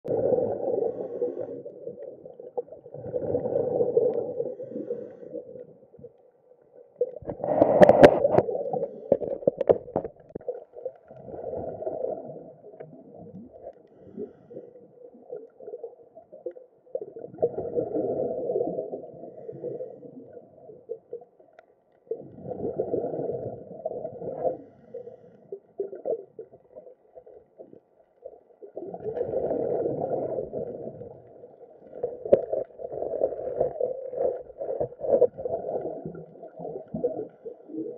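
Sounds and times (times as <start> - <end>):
exhaled bubbles gurgling: 0.0 - 6.2, 6.8 - 37.9.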